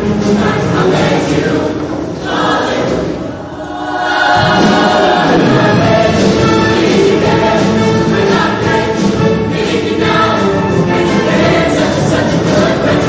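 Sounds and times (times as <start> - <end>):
choir singing over music: 0.0 - 13.0.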